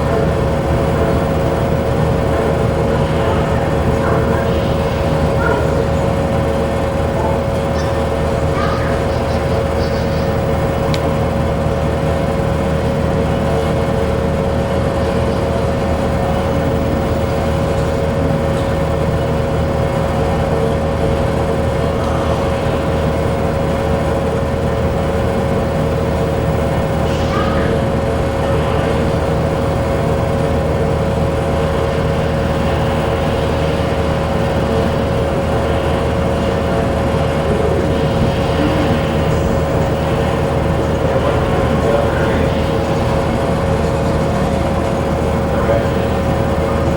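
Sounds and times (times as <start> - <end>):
constant hum: 0.0 - 46.9.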